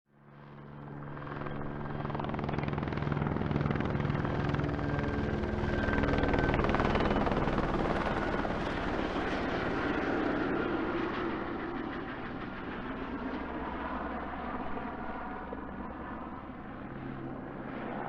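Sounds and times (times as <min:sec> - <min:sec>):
helicopter rotor chopping: 0:00.8 - 0:18.0.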